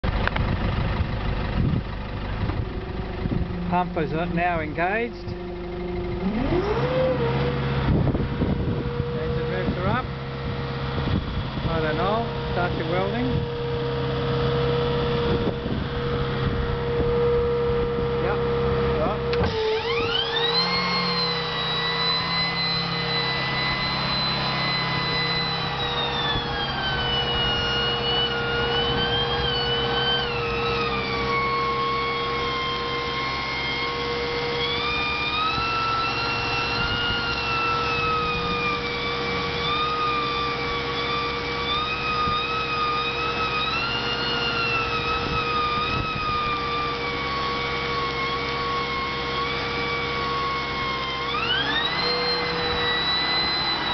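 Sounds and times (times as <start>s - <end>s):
welder generator whining: 0.0s - 53.9s.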